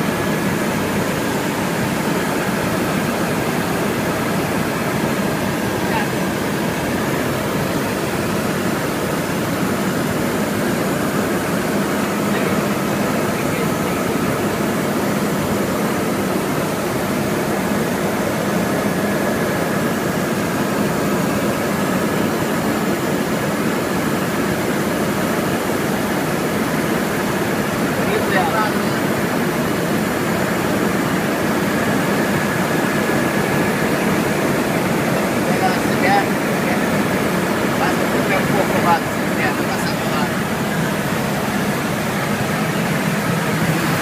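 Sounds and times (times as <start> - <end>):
helicopter engine and rotor noise: 0.0 - 44.0.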